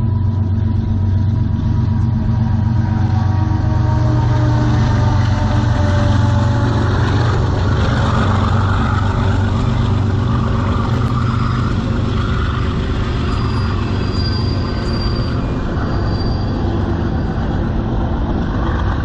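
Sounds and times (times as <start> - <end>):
locomotive engine drone: 0.0 - 19.0.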